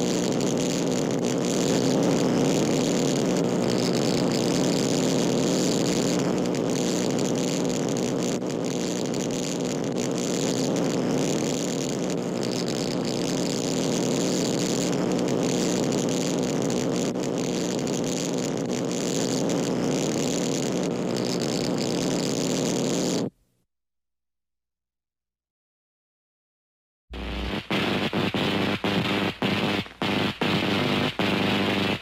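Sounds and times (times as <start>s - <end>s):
arc welder buzzing and crackling: 0.0s - 23.3s, 27.1s - 32.0s.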